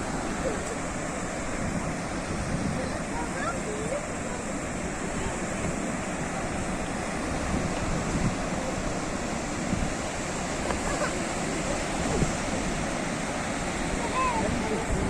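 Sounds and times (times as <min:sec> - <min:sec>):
sea surf washing on shore: 0:00.0 - 0:15.0.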